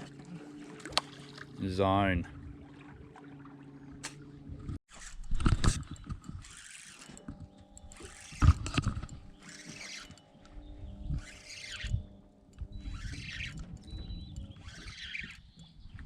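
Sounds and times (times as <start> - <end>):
outboard motor humming: 0.0 - 5.1, 5.9 - 16.0.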